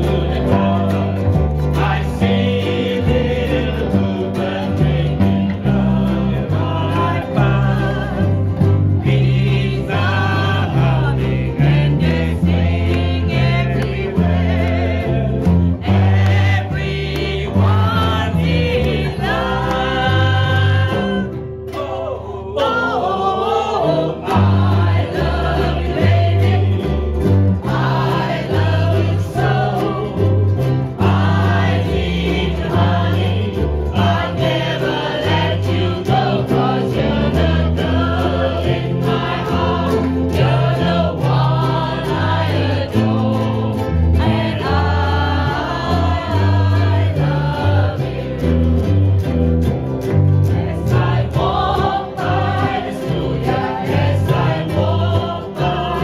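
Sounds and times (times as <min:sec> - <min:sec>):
electric bass guitar: 0:00.0 - 0:56.0
group of people singing: 0:00.0 - 0:56.0
ukuleles strumming: 0:00.0 - 0:56.0.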